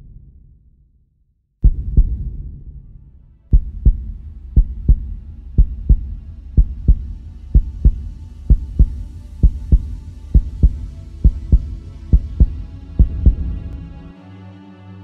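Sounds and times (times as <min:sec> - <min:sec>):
heartbeat thumps: 0:01.6 - 0:13.8.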